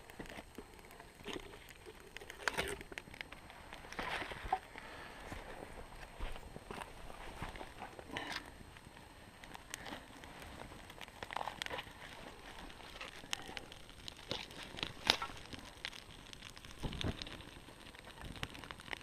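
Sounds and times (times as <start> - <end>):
dry twigs snapping and rustling: 0.0 - 4.9, 5.9 - 19.0.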